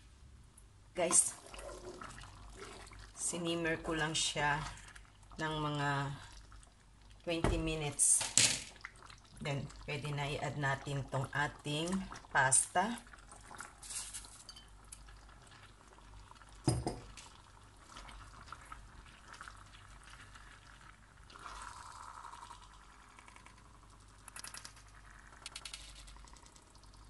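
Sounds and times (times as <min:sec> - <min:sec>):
sauce bubbling in a pan: 0:01.2 - 0:07.3, 0:08.7 - 0:27.0.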